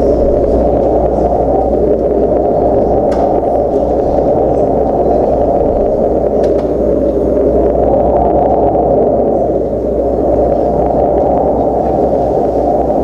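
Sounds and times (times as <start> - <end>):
loud rushing noise: 0.0 - 13.0
low hum: 0.0 - 13.0.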